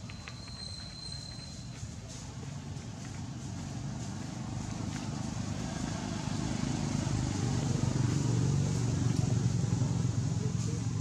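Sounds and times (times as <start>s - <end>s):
vehicle engine running: 1.8s - 11.0s.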